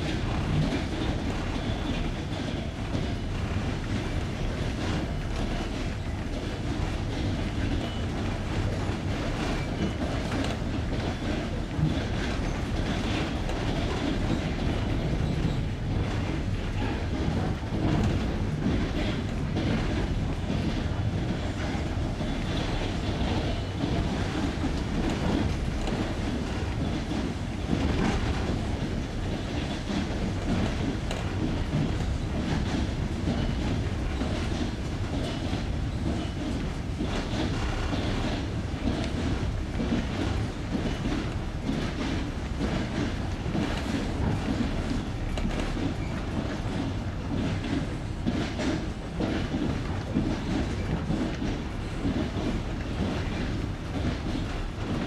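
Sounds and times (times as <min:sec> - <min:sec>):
train running rumble: 0:00.0 - 0:55.0
train wheels clattering: 0:00.0 - 0:55.0.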